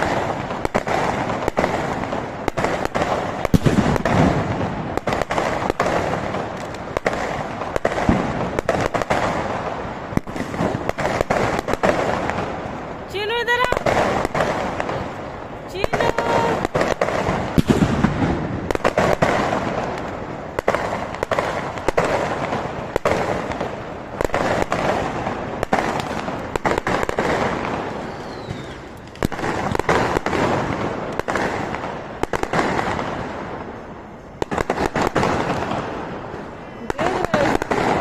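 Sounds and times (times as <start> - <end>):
firecracker bangs and crackles: 0.0 - 38.0
hissing rush of fireworks: 0.0 - 38.0.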